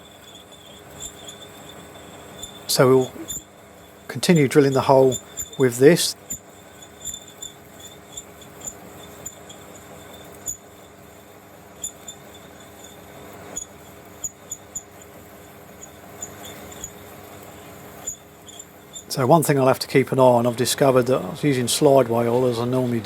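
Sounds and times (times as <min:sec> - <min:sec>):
drill chirps and ticks: 0:00.0 - 0:23.0
metal lathe humming: 0:00.0 - 0:23.0.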